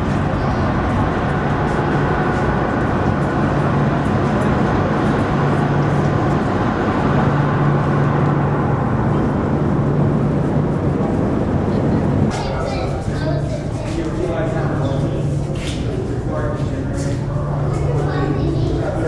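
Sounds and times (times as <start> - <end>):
loud mechanical drone: 0.0 - 19.0.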